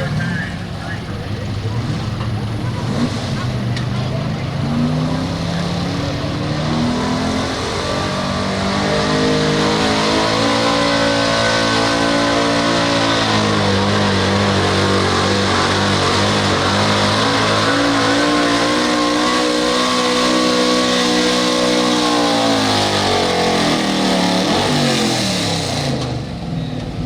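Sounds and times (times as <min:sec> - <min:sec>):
truck engine at full throttle: 0:00.0 - 0:27.0.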